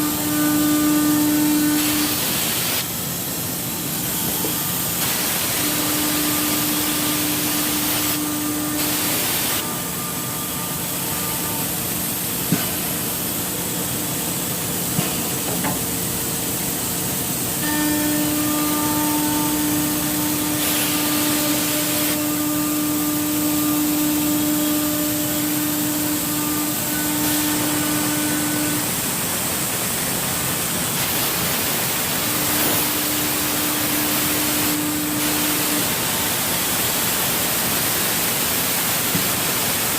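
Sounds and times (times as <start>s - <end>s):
cnc router cutting wood: 0.0s - 39.9s.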